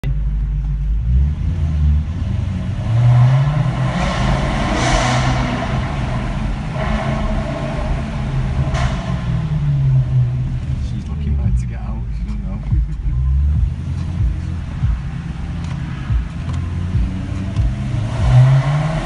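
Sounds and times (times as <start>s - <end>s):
car engine revving: 0.0s - 19.0s
exhaust pop: 2.7s - 19.0s.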